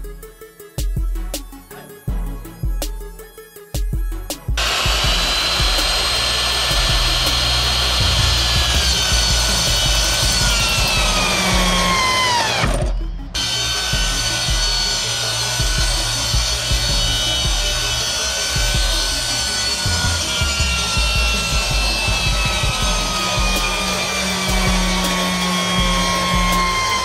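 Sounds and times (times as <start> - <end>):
miter saw cutting shoe: 4.6 - 27.0.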